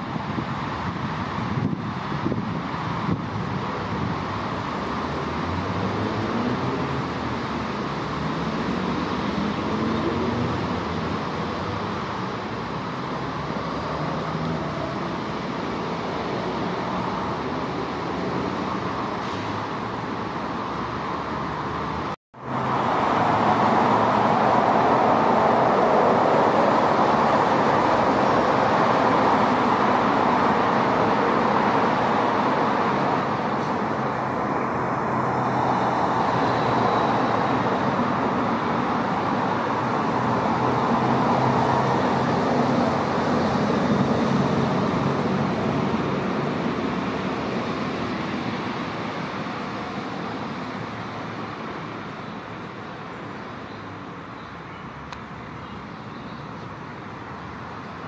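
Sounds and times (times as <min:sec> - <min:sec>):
road traffic hum: 0:00.0 - 0:58.0.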